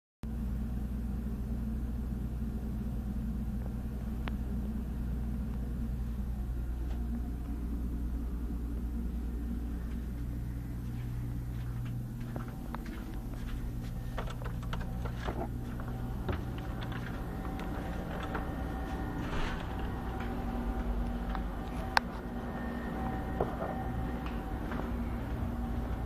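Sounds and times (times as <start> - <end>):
machinery low drone: 0.2 - 26.0.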